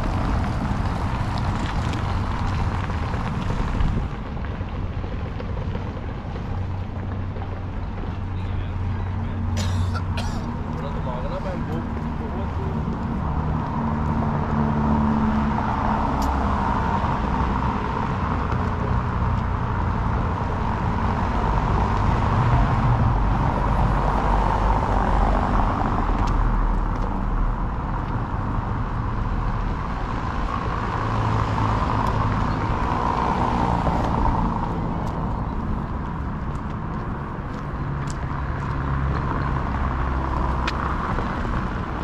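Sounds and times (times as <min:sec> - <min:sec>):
car driving on cobblestones: 0:00.0 - 0:42.0
street traffic noise: 0:00.0 - 0:42.0.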